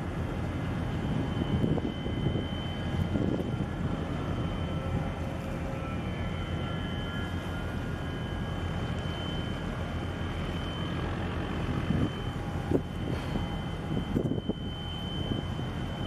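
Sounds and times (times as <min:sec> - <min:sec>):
low engine drone: 0:00.0 - 0:16.0
thin high whine: 0:00.0 - 0:16.0.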